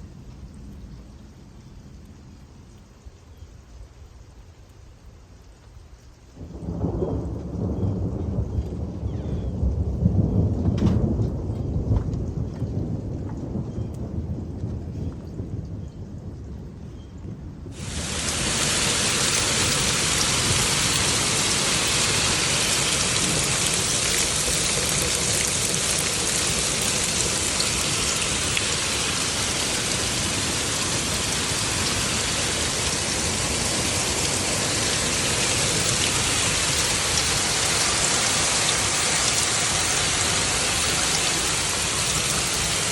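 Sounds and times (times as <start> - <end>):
heavy rain pouring: 0.0 - 16.4, 17.4 - 42.9.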